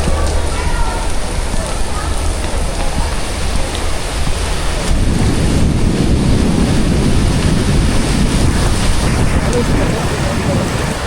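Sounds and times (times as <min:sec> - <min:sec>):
heavy rain: 0:00.0 - 0:11.0
wind noise on microphone: 0:00.0 - 0:11.0.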